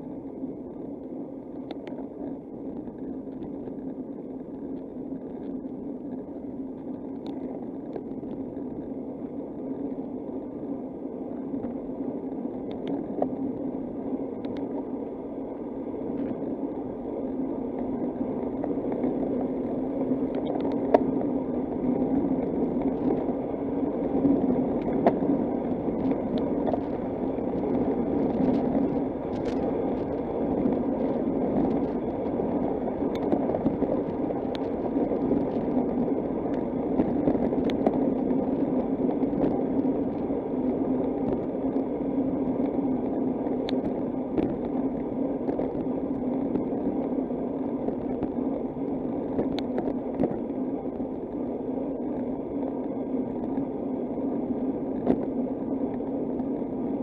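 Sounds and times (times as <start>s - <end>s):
bicycle tyres on road: 0.0s - 57.0s.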